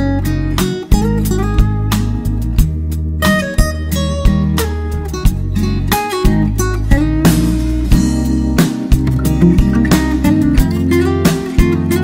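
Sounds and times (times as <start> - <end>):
strummed guitar: 0.0 - 12.0
steady drum beat: 0.6 - 12.0.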